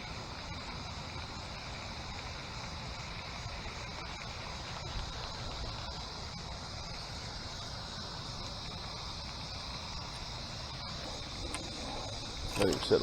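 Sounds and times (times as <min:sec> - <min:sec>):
high drone of insects: 0:00.0 - 0:13.0.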